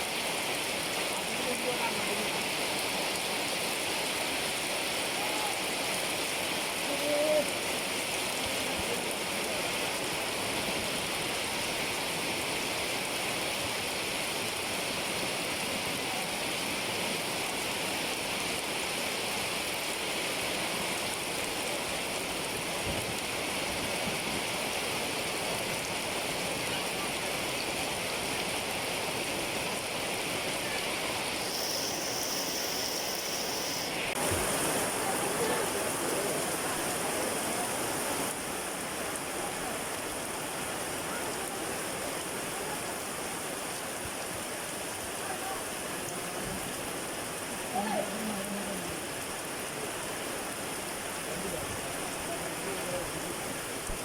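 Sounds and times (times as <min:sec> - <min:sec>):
hiss of water: 0:00.0 - 0:54.0.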